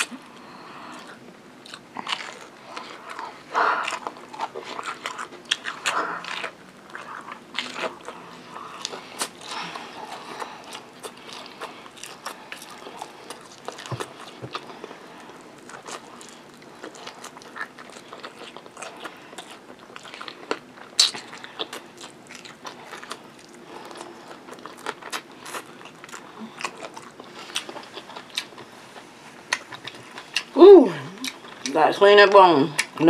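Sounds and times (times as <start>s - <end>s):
chewing crispy fried chicken: 0.0s - 33.0s.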